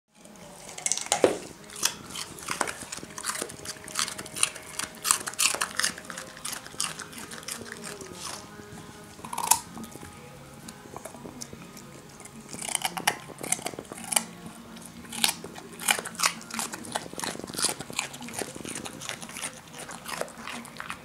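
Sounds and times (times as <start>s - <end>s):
dog crunching a carrot: 0.2s - 21.0s.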